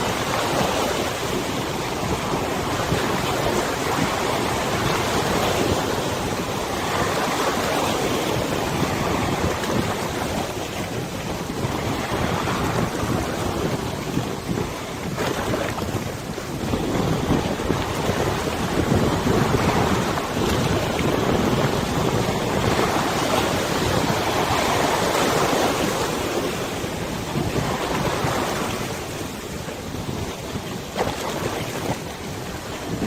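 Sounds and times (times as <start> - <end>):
river water lapping: 0.0 - 33.0
wind buffeting microphone: 0.0 - 33.0.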